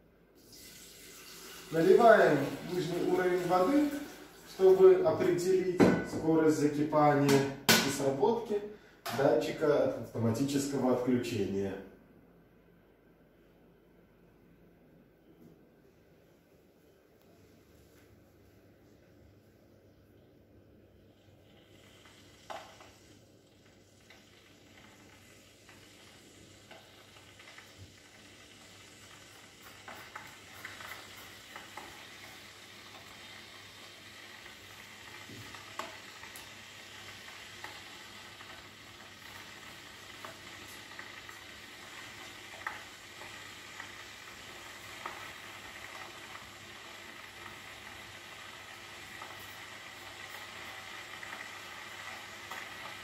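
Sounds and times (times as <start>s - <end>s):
electric kettle hissing and crackling: 0.0s - 11.5s, 20.0s - 53.0s.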